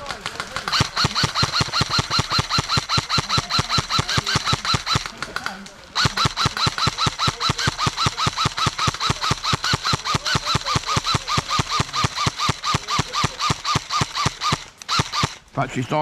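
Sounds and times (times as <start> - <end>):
airsoft gun firing full auto: 0.0 - 15.5.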